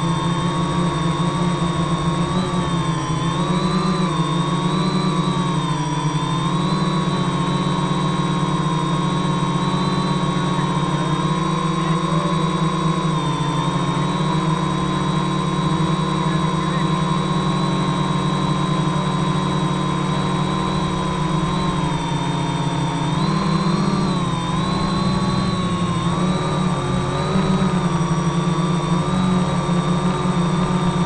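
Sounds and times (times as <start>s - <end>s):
multicopter motors buzzing: 0.0s - 31.0s.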